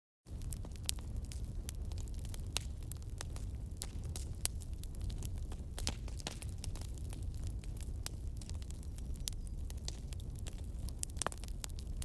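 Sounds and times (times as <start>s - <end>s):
fire crackling and popping: 0.3s - 12.0s
low rumble of burning: 0.3s - 12.0s.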